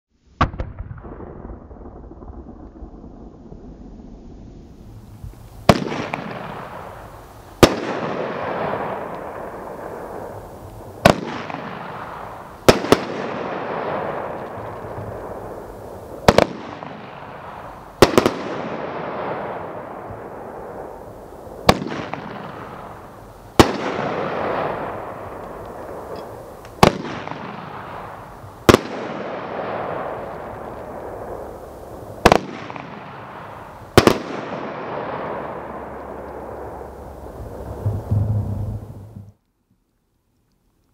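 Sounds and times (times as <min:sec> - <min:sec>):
fireworks bursting: 0:00.3 - 0:39.4.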